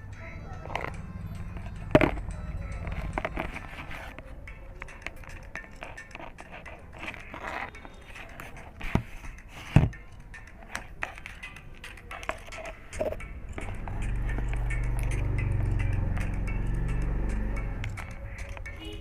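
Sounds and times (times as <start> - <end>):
handling clicks and scrapes: 0.5 - 19.0.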